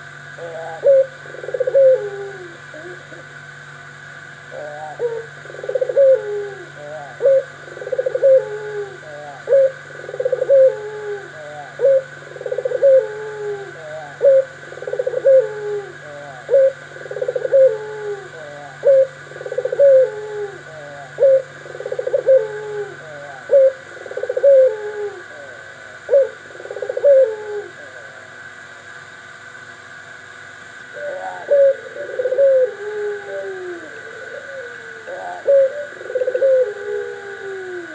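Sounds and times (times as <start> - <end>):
doves cooing: 0.0 - 28.5, 30.8 - 37.9.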